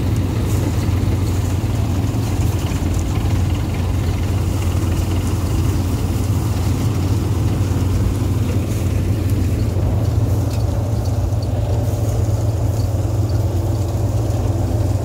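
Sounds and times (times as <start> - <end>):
threshing machine humming: 0.0 - 15.0.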